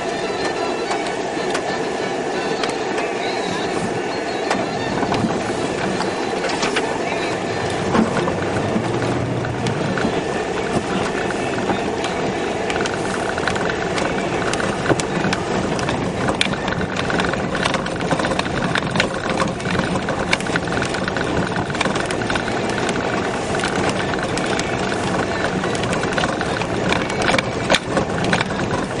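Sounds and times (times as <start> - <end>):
car engine and road noise: 0.0 - 29.0
car clicks and knocks over potholes: 2.6 - 29.0.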